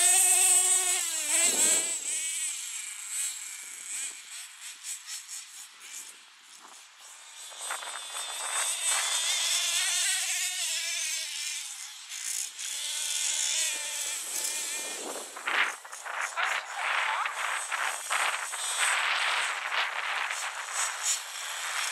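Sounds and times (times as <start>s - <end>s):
nitro engines high buzzing whine: 0.0s - 4.3s, 5.8s - 21.9s.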